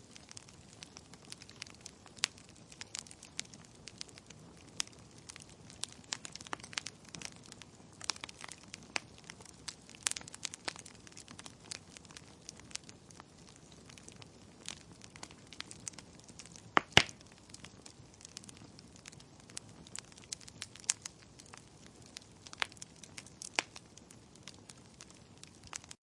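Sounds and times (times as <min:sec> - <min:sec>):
logs crackling and popping in fireplace: 0:00.0 - 0:26.0.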